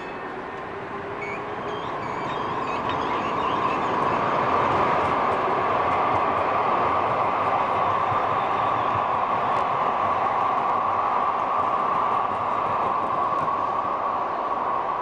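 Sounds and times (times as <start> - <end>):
light rail train rolling past: 0.0 - 15.0.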